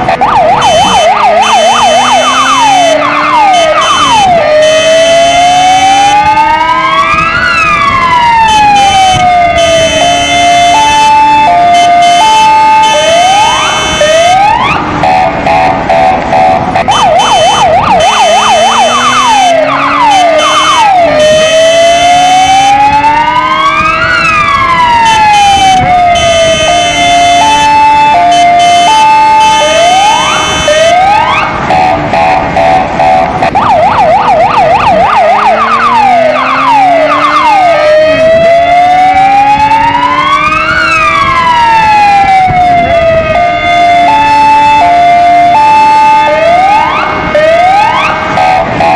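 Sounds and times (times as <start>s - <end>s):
electronic siren wailing and yelping: 0.0s - 48.9s
low engine-like siren tone: 0.0s - 48.9s.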